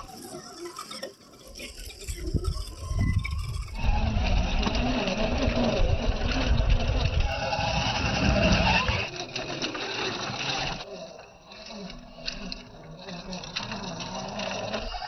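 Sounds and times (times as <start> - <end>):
model truck motor whine: 0.0 - 15.0.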